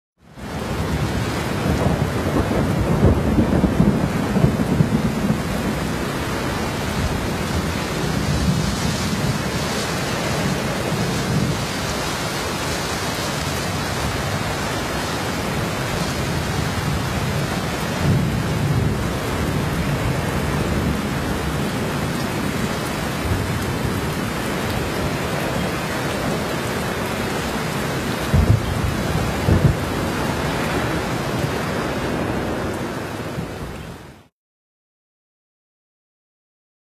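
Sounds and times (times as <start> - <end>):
heavy rain: 0.2 - 34.3
wind gusts rumbling: 0.4 - 34.1.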